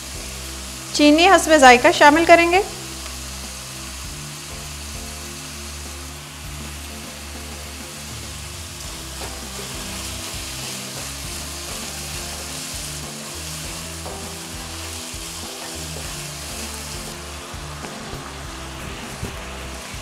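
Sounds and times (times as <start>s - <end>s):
food sizzling in a wok: 0.0s - 20.0s
low background music: 0.0s - 20.0s.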